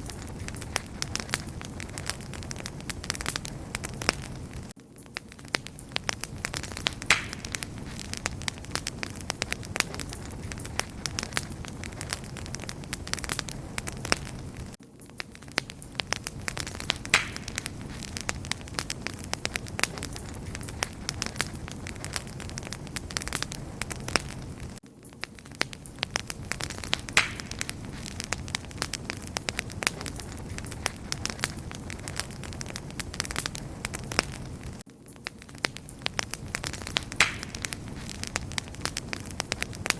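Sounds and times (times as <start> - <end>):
low rush of flame: 0.0 - 14.8, 15.4 - 34.8, 35.5 - 39.9
wood fire crackling and popping: 0.0 - 39.9.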